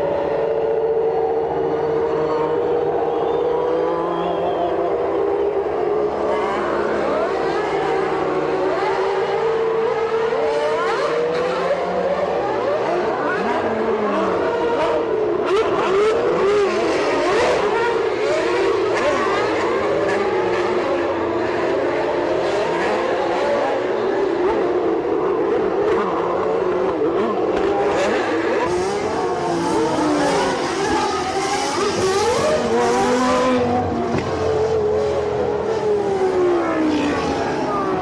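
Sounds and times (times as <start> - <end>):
racing car engines revving: 0.0 - 38.0.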